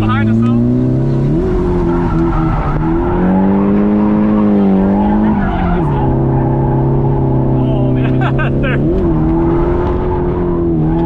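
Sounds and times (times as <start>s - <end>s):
car engine revving high: 0.0s - 11.0s
tyres squealing and skidding: 1.3s - 11.0s.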